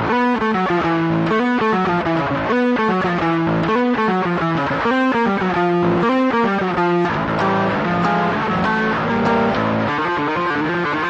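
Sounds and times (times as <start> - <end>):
distorted electric guitar riff: 0.0 - 11.0.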